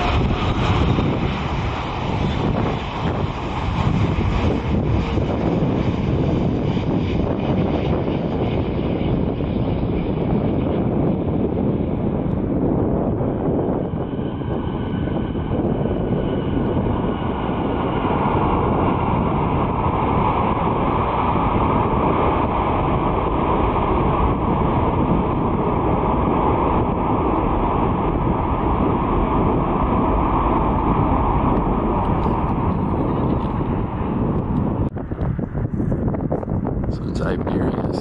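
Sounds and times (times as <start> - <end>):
jet engines rumbling: 0.0 - 38.0.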